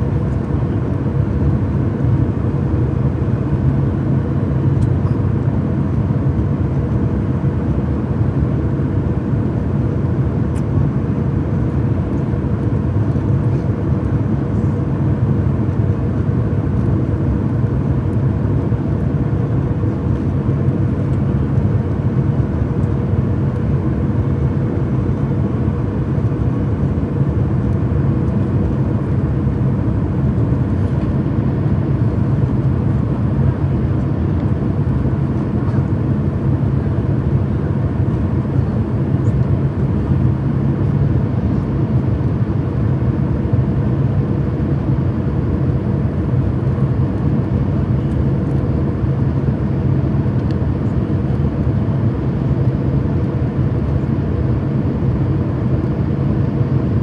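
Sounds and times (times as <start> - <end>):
faint constant hum: 0.0 - 57.0
jet airliner rumble: 0.0 - 57.0.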